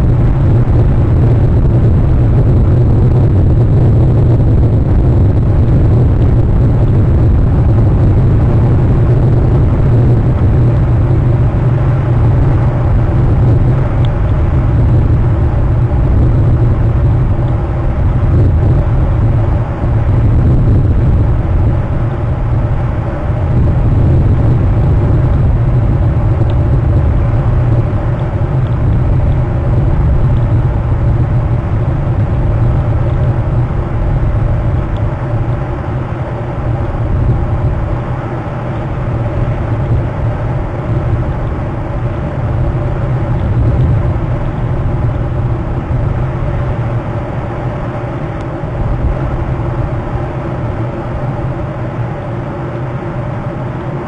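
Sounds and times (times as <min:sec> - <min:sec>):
low outdoor rumble: 0:00.0 - 0:54.0.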